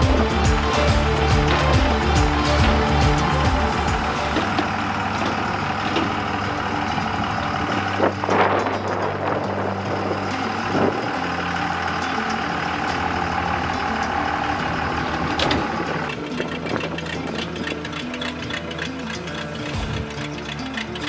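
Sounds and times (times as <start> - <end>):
diesel truck engine running: 0.0 - 21.0
high whine: 0.0 - 21.0.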